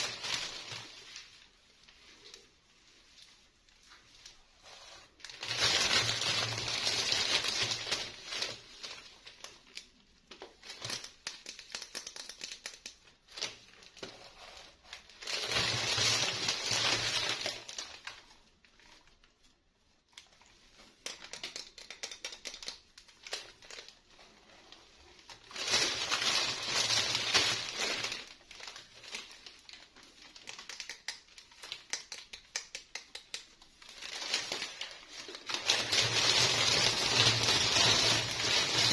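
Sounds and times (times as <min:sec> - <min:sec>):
plastic packaging crinkling: 0:00.0 - 0:19.3, 0:20.1 - 0:38.9
small clicks and rustles: 0:00.0 - 0:38.9.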